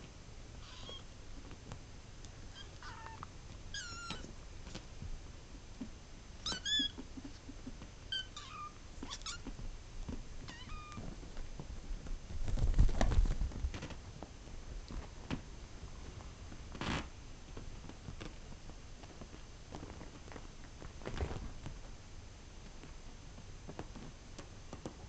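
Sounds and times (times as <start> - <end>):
rustling: 0.0 - 25.0.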